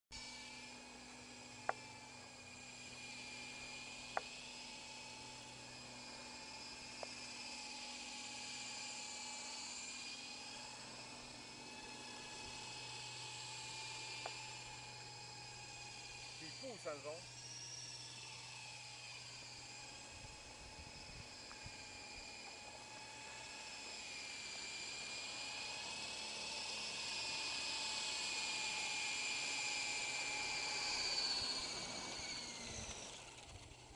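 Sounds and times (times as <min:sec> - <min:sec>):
toy helicopter rotor whine: 0:00.1 - 0:33.9.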